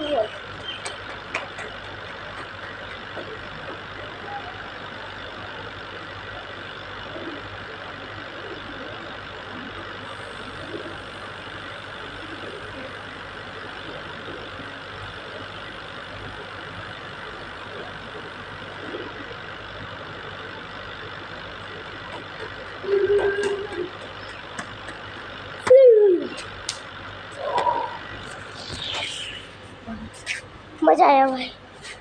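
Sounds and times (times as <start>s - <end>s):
faint outdoor background noise: 0.0s - 32.0s
steady mechanical hum: 0.0s - 32.0s.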